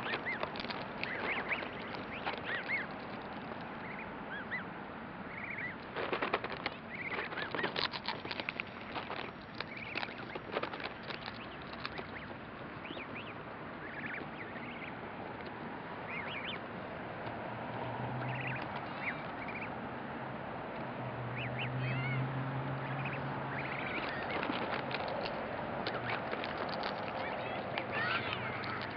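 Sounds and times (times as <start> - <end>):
goslings peeping: 0.0 - 17.0, 18.2 - 19.8, 21.3 - 22.2, 22.8 - 28.9.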